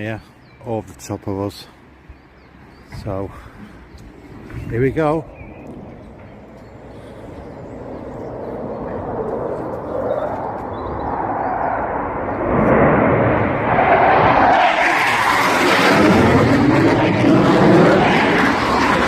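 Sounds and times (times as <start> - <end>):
fighter jets flying low past: 1.0 - 19.0.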